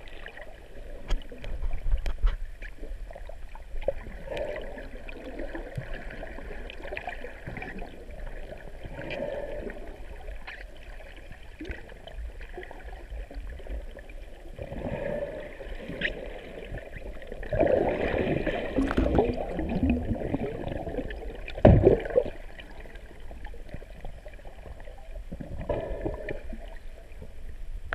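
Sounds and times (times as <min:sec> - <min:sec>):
muffled underwater swirling and bubbling: 0:00.0 - 0:27.9.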